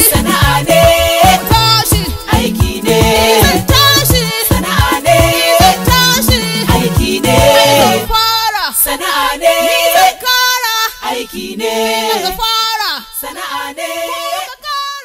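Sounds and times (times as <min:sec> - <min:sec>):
woman singing a cappella: 0:00.0 - 0:15.0.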